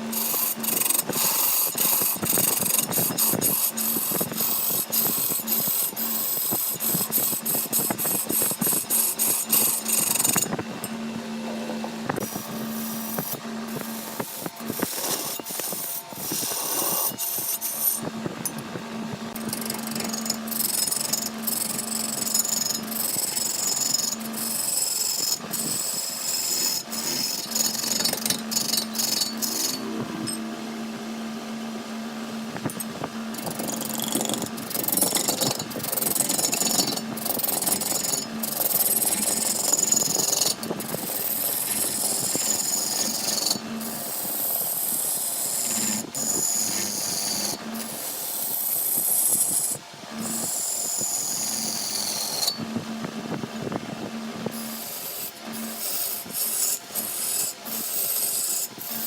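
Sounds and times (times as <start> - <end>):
lathe motor humming: 0.0 - 59.0
tool scraping spinning wood: 0.0 - 59.0.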